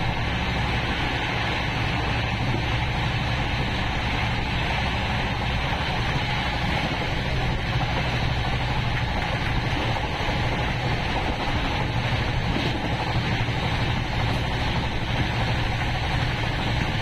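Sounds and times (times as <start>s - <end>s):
constant low hum: 0.0s - 17.0s
train rushing noise: 0.0s - 17.0s.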